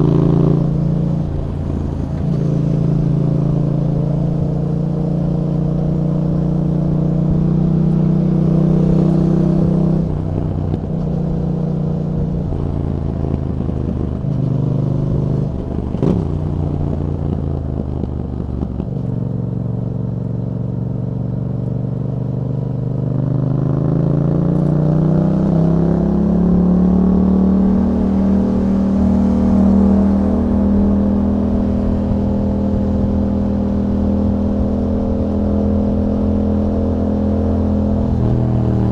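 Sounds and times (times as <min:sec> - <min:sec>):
exhaust crack: 0:00.0 - 0:22.3, 0:23.9 - 0:38.9
motorcycle engine running: 0:00.0 - 0:38.9.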